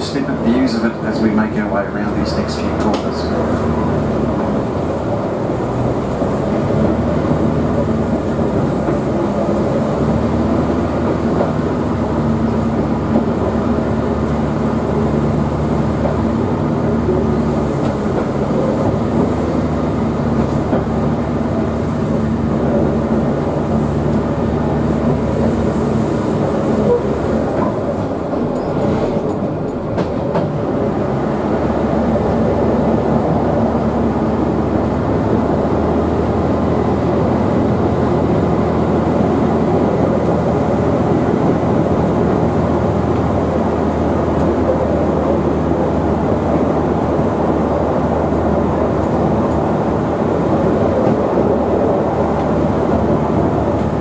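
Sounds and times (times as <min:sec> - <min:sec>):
diesel rail motor engine drone: 0:00.0 - 0:54.0
wheel and track noise: 0:00.0 - 0:54.0.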